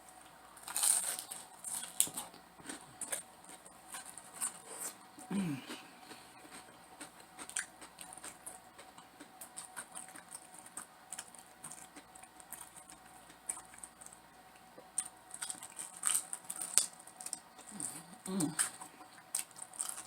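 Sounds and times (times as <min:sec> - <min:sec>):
chewing and biting: 0:00.6 - 0:20.0.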